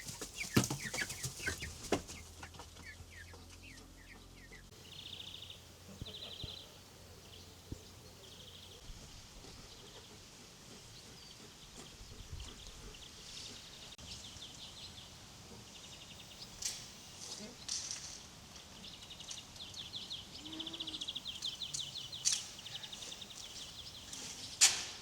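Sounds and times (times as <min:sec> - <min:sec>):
faint rural ambience: 0:00.0 - 0:25.0.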